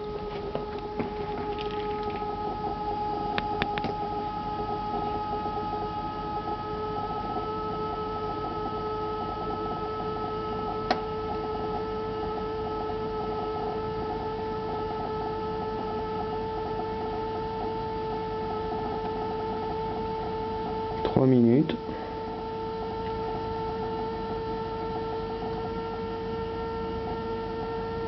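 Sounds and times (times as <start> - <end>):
refrigerator humming: 0.0 - 28.0.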